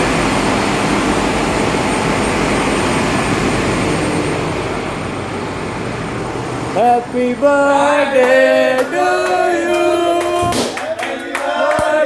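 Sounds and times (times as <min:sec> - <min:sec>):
engine room machinery drone: 0:00.0 - 0:10.8.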